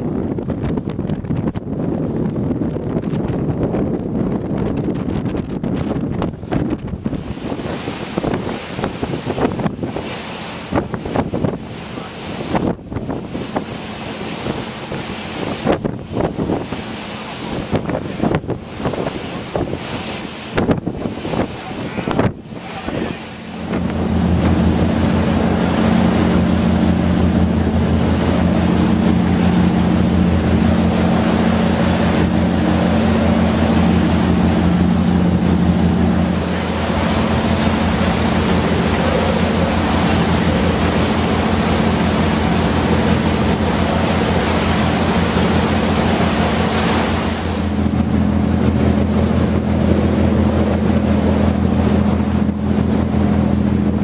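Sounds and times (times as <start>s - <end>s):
boat engine running: 0.0s - 54.0s
water rushing past hull: 0.0s - 54.0s.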